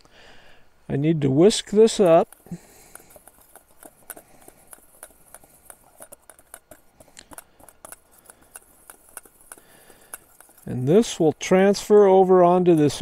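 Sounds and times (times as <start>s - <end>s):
whisk ticking and scraping in bowl: 1.4s - 13.0s.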